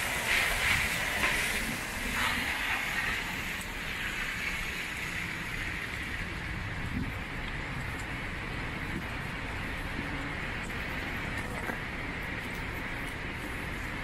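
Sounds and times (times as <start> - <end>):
heavy rain on pavement: 0.0 - 14.0
low rumble of traffic: 0.0 - 14.0.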